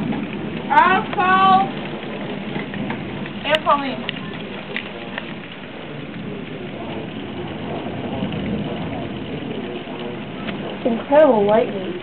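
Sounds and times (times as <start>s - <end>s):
low rumble of thunder: 0.0s - 12.0s
steady rain: 0.0s - 12.0s.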